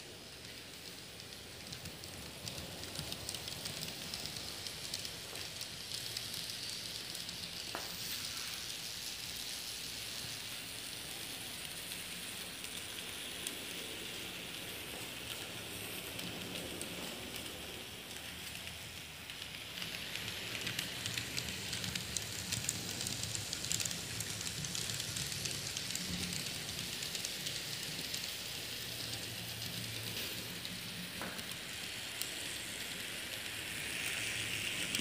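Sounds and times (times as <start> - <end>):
model train wheels hissing on rail: 0.0 - 35.0.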